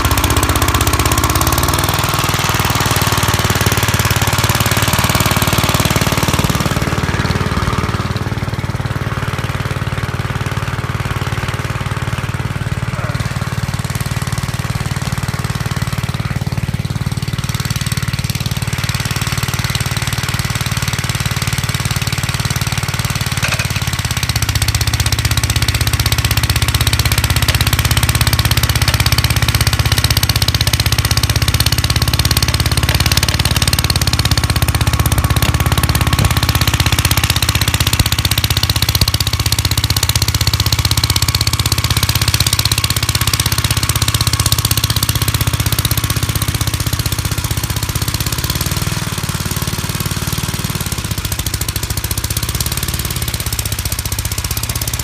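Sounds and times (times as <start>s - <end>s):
tractor engine knocking steadily: 0.0s - 55.0s.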